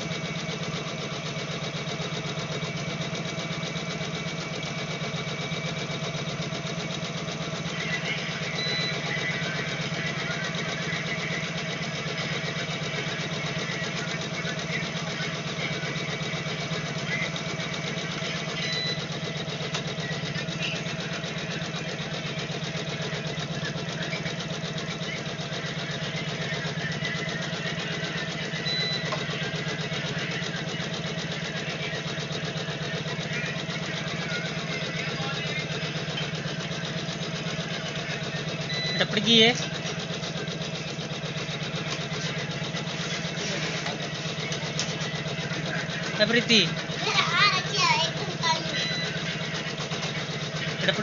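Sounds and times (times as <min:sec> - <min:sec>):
motor hum: 0:00.0 - 0:51.0.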